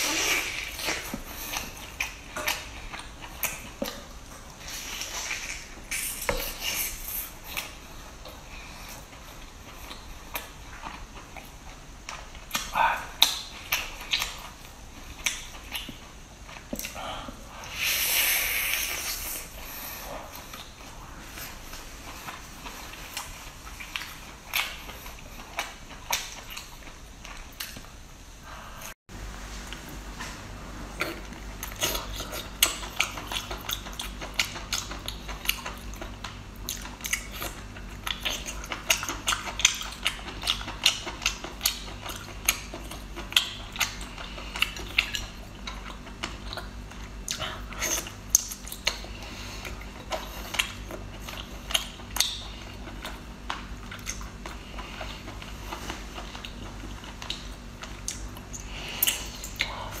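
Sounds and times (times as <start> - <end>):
wet biting and chewing: 0.0 - 28.0, 31.0 - 60.0.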